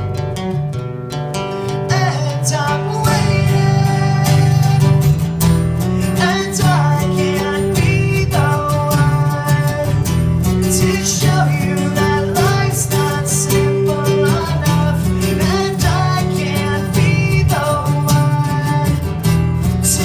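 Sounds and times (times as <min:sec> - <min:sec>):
acoustic guitar strumming: 0:00.0 - 0:20.0
person singing: 0:01.5 - 0:05.3, 0:05.9 - 0:19.2.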